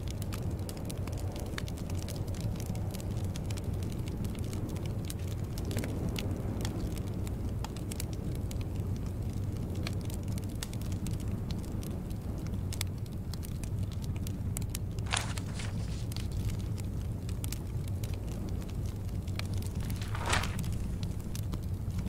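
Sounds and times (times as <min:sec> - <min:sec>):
low fire rumble: 0:00.0 - 0:22.0
wood fire crackling: 0:00.0 - 0:22.0.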